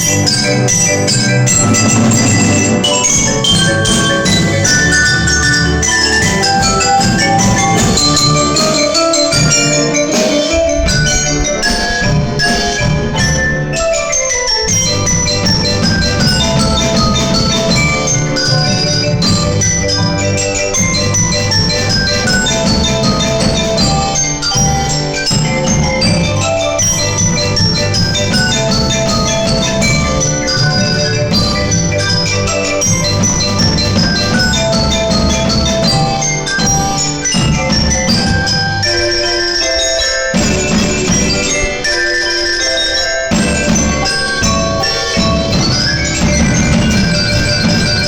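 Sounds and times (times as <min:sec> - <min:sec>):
bell-like mallet percussion music: 0:00.0 - 0:48.0.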